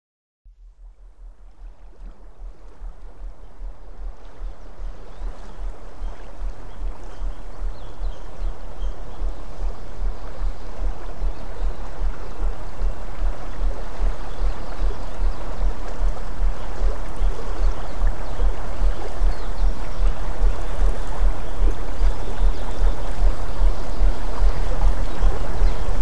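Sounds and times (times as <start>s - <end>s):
deep pulsing low hum: 0.5s - 26.0s
running stream water: 1.0s - 26.0s.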